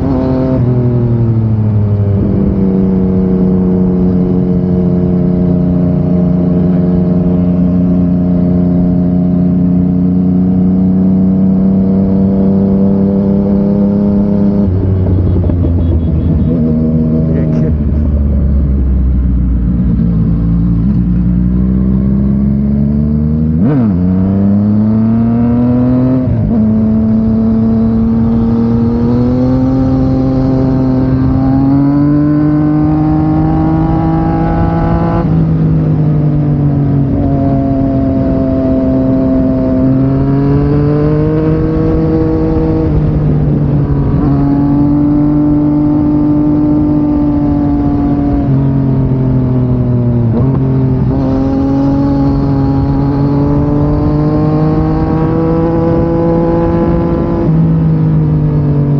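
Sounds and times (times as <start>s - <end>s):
motorcycle engine accelerating: 0.0s - 58.9s.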